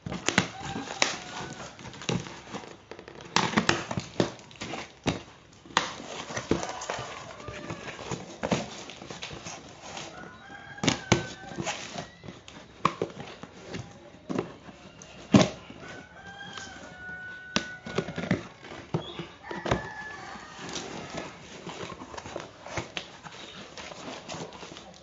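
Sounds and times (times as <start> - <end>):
knocks and clatter of handling: 0.0 - 25.0.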